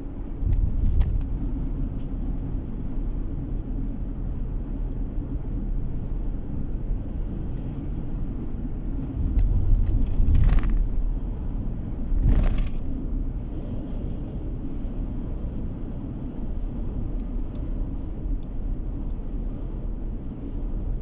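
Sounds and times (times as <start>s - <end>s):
car tyre and engine rumble: 0.0s - 21.0s.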